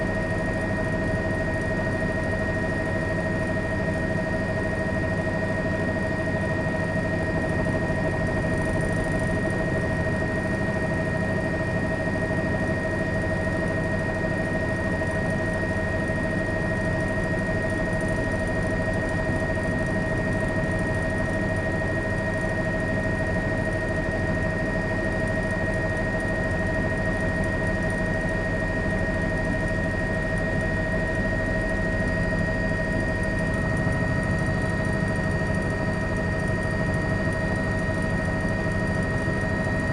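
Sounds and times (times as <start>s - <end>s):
steady engine drone: 0.0s - 39.9s.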